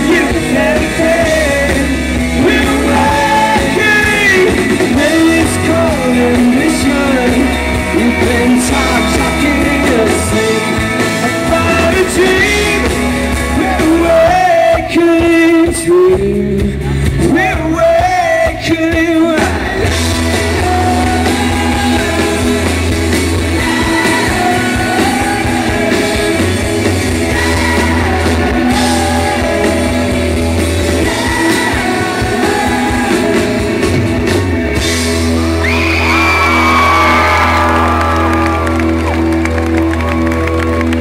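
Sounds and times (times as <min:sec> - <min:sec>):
live rock band with singing: 0:00.0 - 0:41.0.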